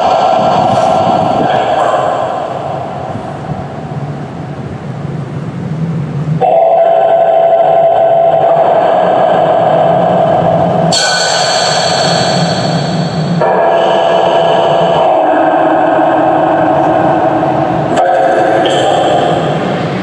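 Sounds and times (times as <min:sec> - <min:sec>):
held droning tone: 0:00.0 - 0:20.0.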